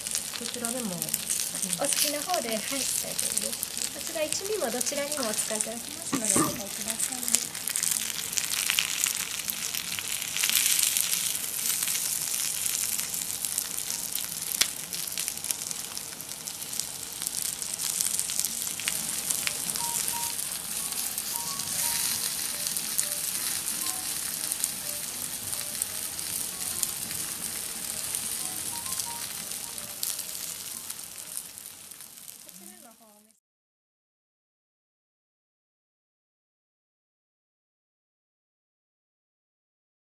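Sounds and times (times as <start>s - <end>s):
food sizzling with small pops: 0.0s - 33.2s.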